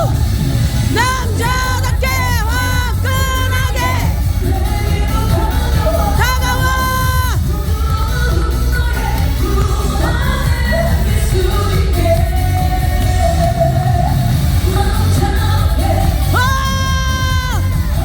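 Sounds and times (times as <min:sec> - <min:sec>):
heavy bass beat: 0:00.0 - 0:18.0
person singing over backing track: 0:00.9 - 0:18.0.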